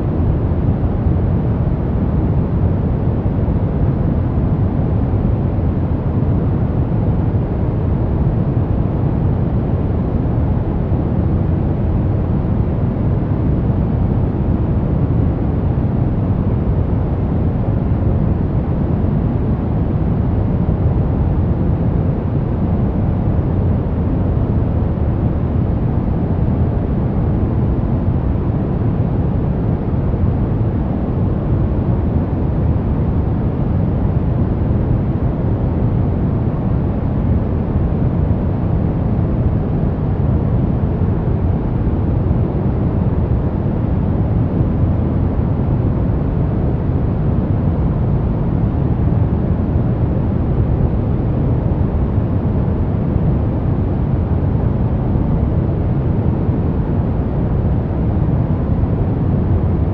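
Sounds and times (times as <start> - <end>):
deep low white noise: 0.0 - 59.9.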